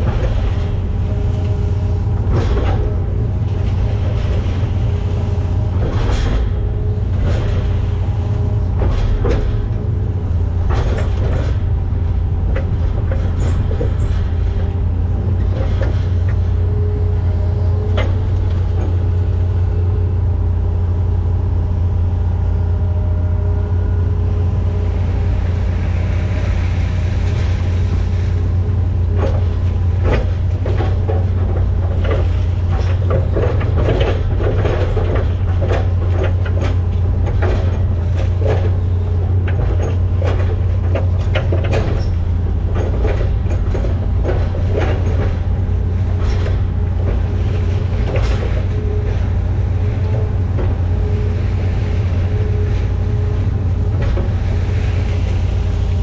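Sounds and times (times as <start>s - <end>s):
boom and bucket clanking: 0.0s - 16.7s, 25.8s - 56.0s
excavator diesel engine running: 0.0s - 56.0s.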